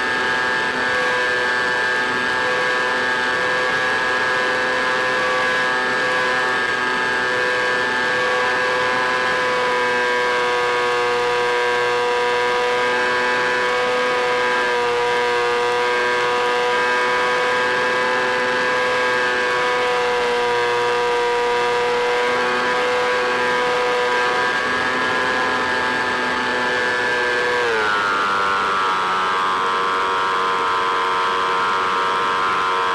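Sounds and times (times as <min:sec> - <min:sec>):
electric motor and propeller whine: 0:00.0 - 0:32.9.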